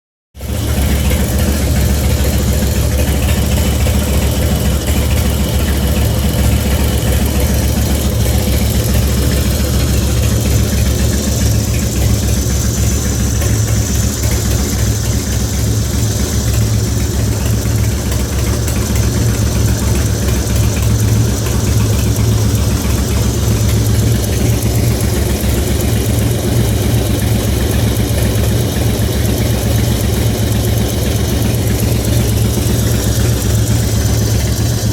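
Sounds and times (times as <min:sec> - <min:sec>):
engine ticking: 0:00.3 - 0:34.9
motorcycle engine idling: 0:00.4 - 0:34.9.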